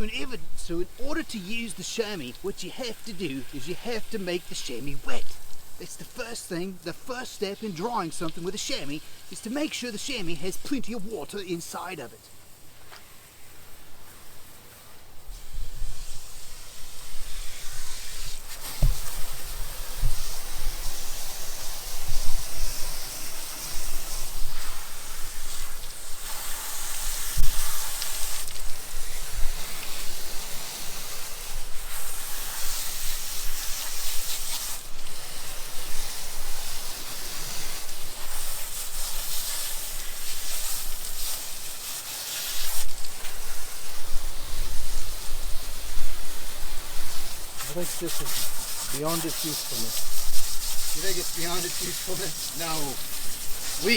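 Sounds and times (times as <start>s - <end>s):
garden hose spraying water: 0.0s - 53.9s.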